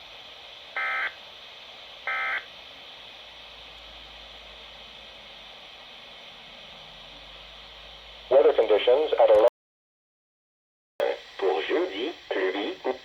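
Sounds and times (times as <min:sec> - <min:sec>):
radio hiss: 0:00.1 - 0:09.5, 0:11.0 - 0:13.0.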